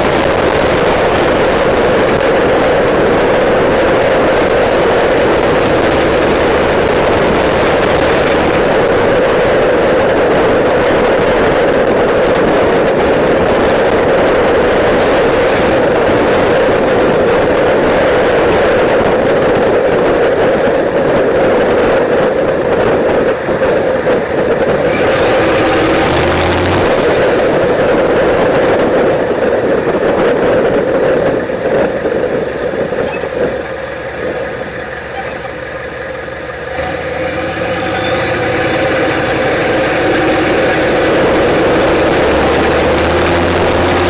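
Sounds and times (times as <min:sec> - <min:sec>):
diesel truck engine drone: 0:00.0 - 0:44.0.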